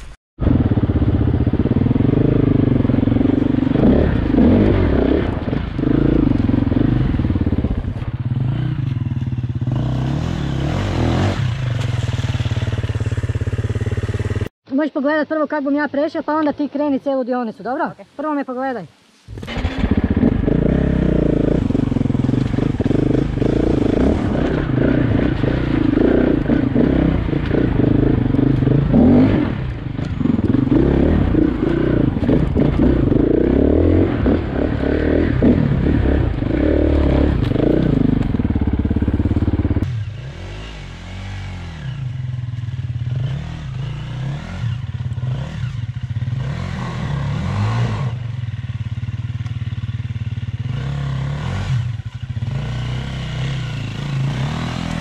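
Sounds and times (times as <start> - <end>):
motorcycle engine revving: 0.0 - 14.5, 19.3 - 55.0.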